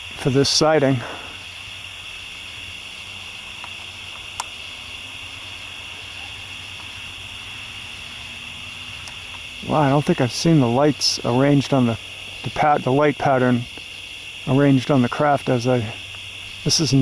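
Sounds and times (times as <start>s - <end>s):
crickets and night insects trilling: 0.0s - 17.0s.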